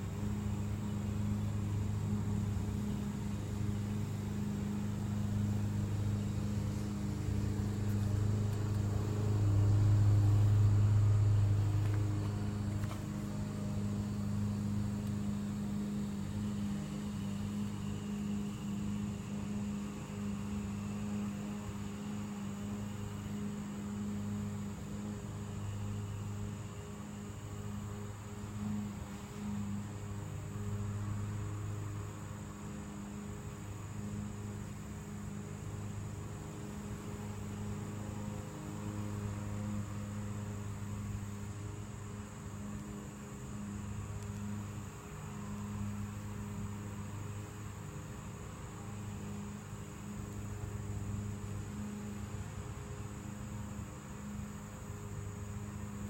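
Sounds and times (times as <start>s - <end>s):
faint high whine: 0.0s - 56.0s
steady low hum: 0.0s - 56.0s.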